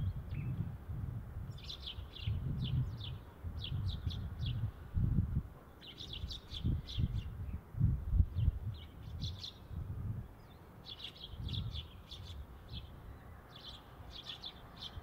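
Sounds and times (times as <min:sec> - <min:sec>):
sparrows chirping: 0:00.0 - 0:00.6, 0:01.4 - 0:04.9, 0:05.6 - 0:15.0.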